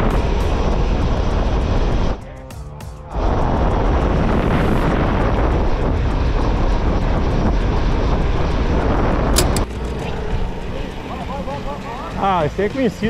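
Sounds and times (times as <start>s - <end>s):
wind rushing over microphone: 0.0s - 2.2s, 3.1s - 13.0s.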